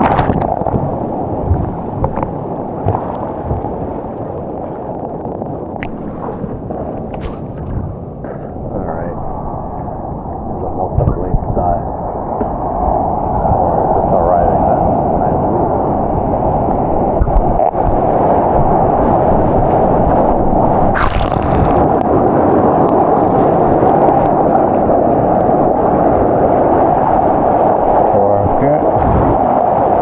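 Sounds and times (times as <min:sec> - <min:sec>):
muffled rush of water: 0:00.0 - 0:30.0
wind noise on camera: 0:00.0 - 0:30.0.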